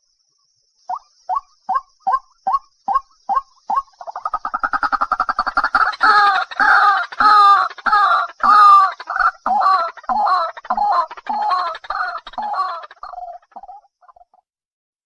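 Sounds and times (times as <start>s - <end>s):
waterhen calling: 0.9s - 14.2s.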